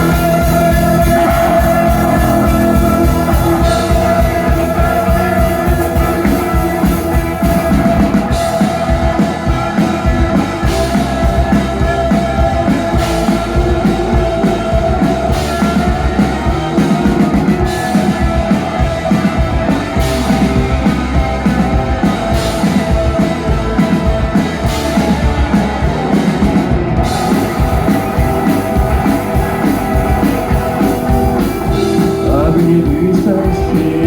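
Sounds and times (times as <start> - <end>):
drum kit steady beat: 0.0 - 34.0
guitar: 0.0 - 34.0
rock music: 0.0 - 34.0.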